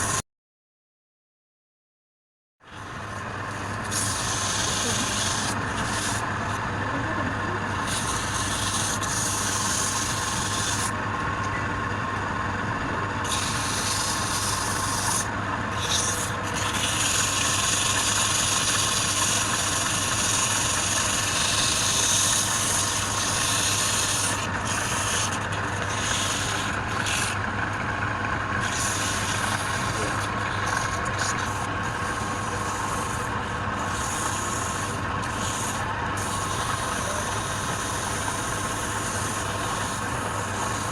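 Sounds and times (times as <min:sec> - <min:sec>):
tool scraping spinning wood: 0:02.7 - 0:40.9
wood lathe humming: 0:02.7 - 0:40.9.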